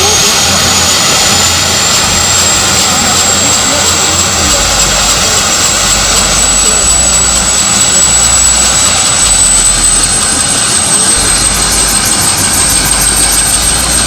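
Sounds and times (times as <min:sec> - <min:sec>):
fast faint pulsing: 0:00.0 - 0:14.0
helicopter engine running: 0:00.0 - 0:14.0
high turbine whine: 0:00.0 - 0:14.0.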